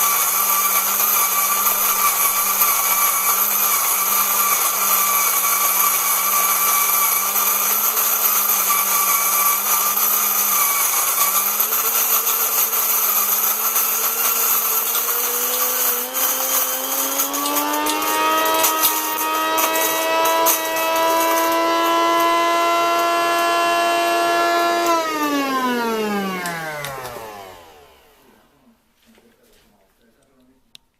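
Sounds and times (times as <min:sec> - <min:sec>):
electric coffee grinder running: 0:00.0 - 0:28.4.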